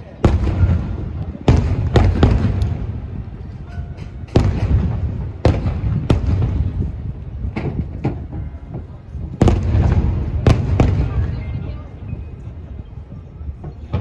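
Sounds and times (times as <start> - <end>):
firework bangs with echo: 0.2 - 11.8.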